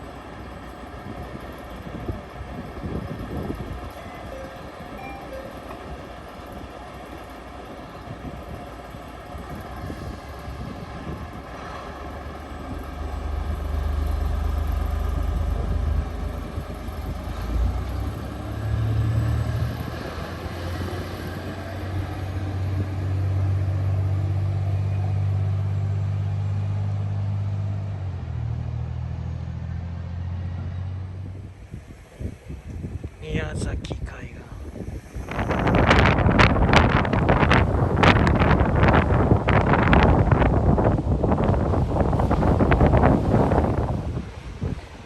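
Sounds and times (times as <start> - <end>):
road traffic passing: 0.0 - 45.0.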